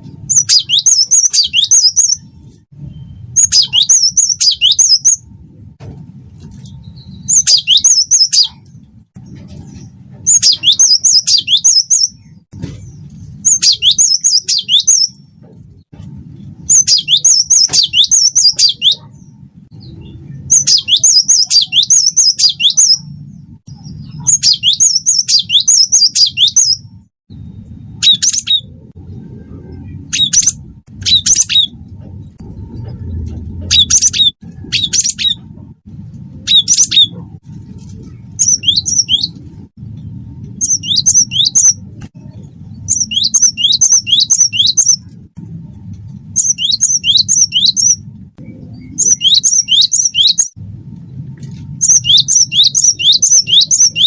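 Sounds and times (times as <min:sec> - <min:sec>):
low steady hum: 0:00.0 - 0:54.0
bird singing: 0:00.3 - 0:05.3, 0:06.6 - 0:08.8, 0:09.6 - 0:12.5, 0:13.4 - 0:15.3, 0:16.6 - 0:33.0, 0:33.6 - 0:35.5, 0:36.5 - 0:37.3, 0:38.3 - 0:39.4, 0:40.0 - 0:45.1, 0:46.4 - 0:50.6, 0:51.8 - 0:54.0.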